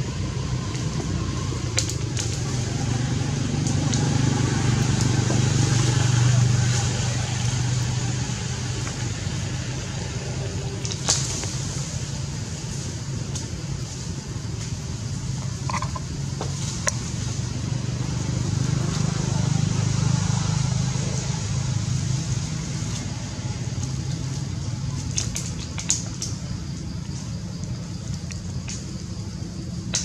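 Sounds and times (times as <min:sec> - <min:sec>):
dry leaves crackling: 0:00.0 - 0:30.0
high steady hiss: 0:00.0 - 0:30.0.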